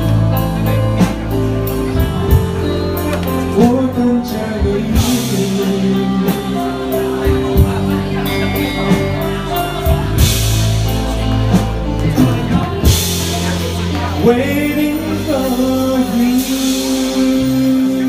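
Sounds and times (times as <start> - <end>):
live band music: 0.0 - 18.0
steady bass line: 0.0 - 18.0.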